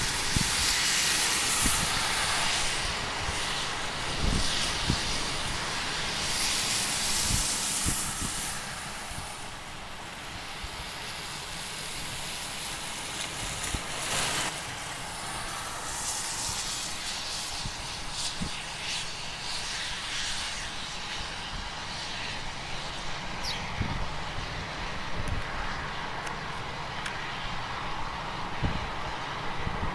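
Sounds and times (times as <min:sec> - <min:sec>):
airliner engines rushing hiss: 0:00.0 - 0:29.9
wind rumbling on microphone: 0:00.0 - 0:29.9.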